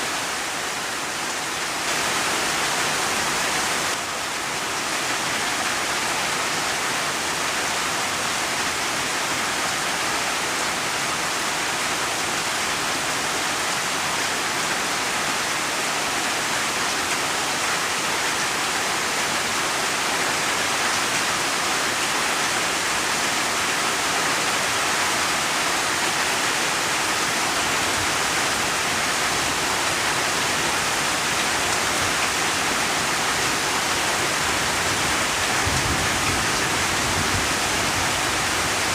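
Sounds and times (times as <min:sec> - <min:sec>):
heavy rain hiss: 0:00.0 - 0:38.9.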